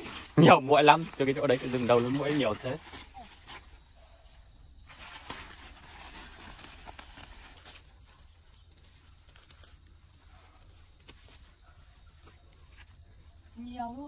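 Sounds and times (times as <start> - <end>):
rustles in undergrowth: 0.0 - 3.9, 4.8 - 14.0
insects droning: 0.0 - 14.0.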